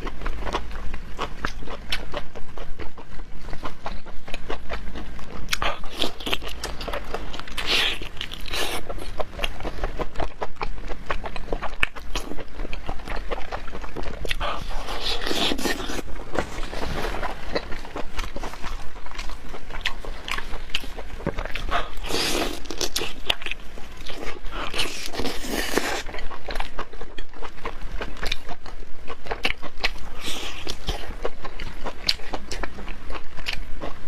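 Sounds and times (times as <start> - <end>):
biting and chewing food: 0.0 - 34.0.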